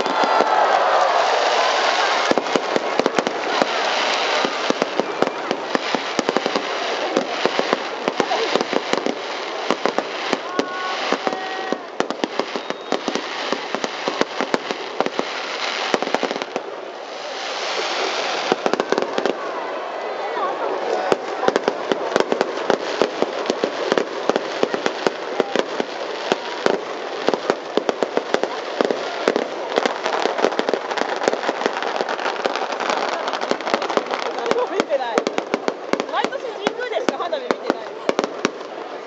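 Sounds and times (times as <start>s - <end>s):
fireworks bangs and crackles: 0.0s - 39.0s
stadium crowd noise: 0.0s - 39.0s.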